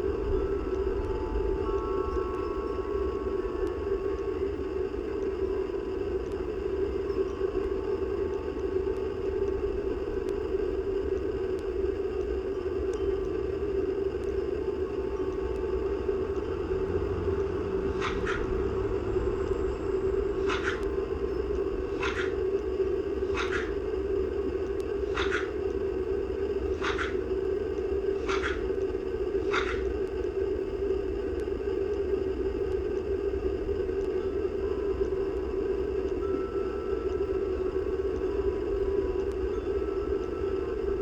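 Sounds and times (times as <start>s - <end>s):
low rumble and hum: 0.0s - 41.0s.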